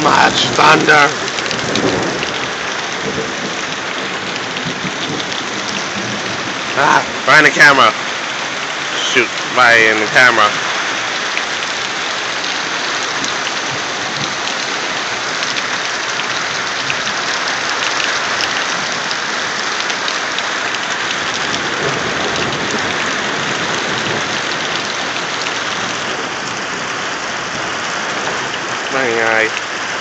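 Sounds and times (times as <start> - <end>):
heavy rain pouring: 0.0 - 30.0
raindrops ticking close by: 0.0 - 30.0.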